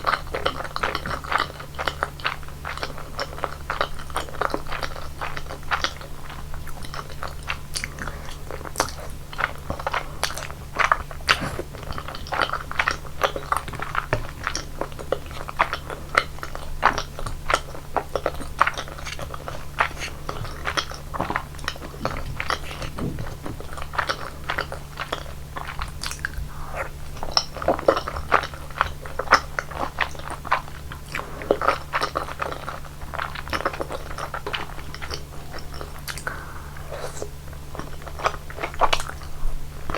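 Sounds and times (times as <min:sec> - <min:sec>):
faint low hum: 0:00.0 - 0:39.9
wet chewing mouth clicks: 0:00.0 - 0:39.9.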